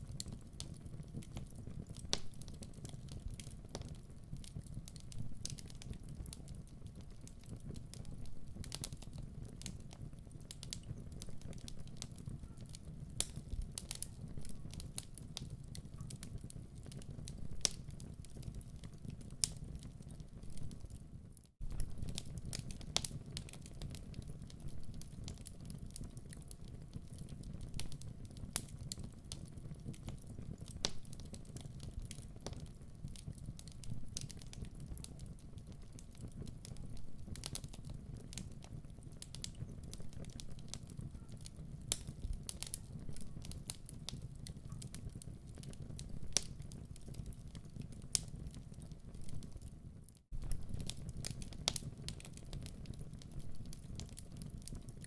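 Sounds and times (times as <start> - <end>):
low rumble of burning: 0.0 - 55.0
wood fire popping and snapping: 0.0 - 55.0.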